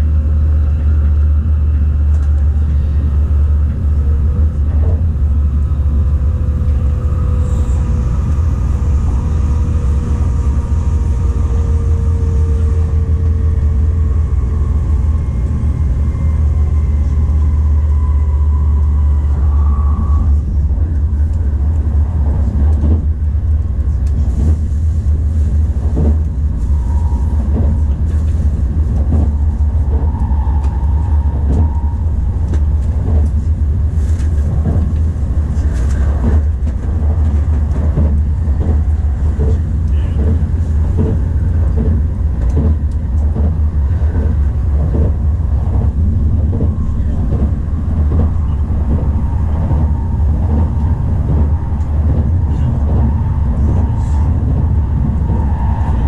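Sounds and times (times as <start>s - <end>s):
train interior rumble: 0.0s - 56.0s.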